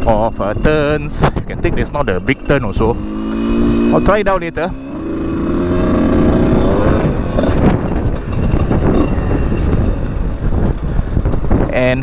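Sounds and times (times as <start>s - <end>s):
motorcycle engine revving: 0.0s - 12.0s
wind on microphone: 0.0s - 12.0s.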